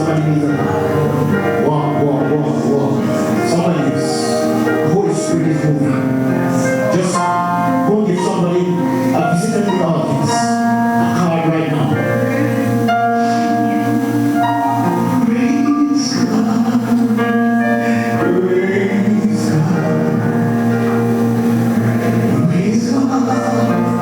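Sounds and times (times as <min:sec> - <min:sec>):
held keyboard chords: 0:00.0 - 0:24.0
voices singing: 0:00.0 - 0:24.0.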